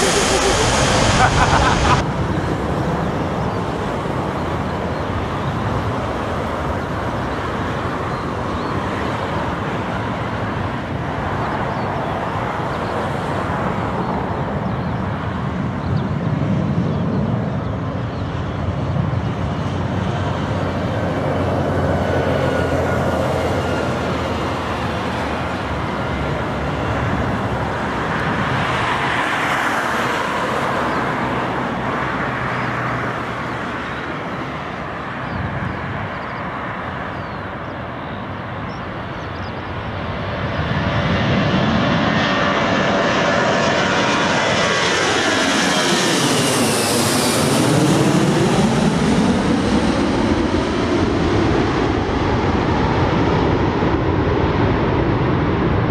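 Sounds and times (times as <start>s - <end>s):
jet airliner taking off: 0.0s - 55.9s.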